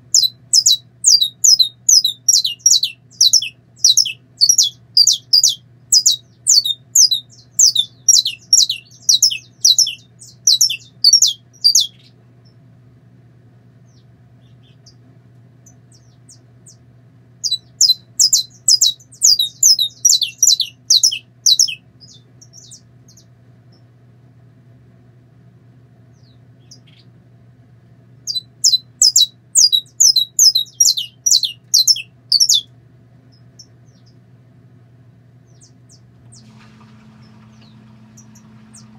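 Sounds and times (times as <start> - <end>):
finch singing: 0.0 - 12.6, 13.9 - 15.0, 15.6 - 16.8, 17.4 - 23.9, 26.1 - 27.2, 28.2 - 32.7, 33.3 - 34.2, 35.4 - 38.9.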